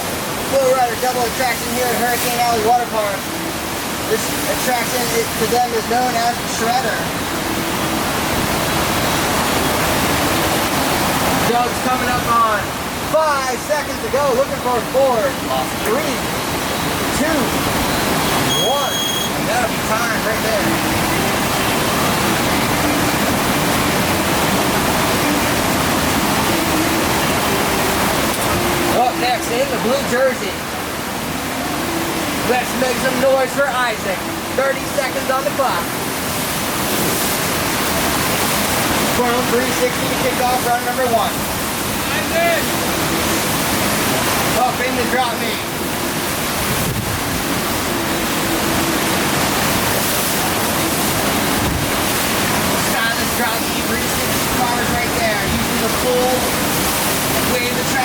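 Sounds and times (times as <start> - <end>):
sheet of water rushing: 0.0 - 58.0.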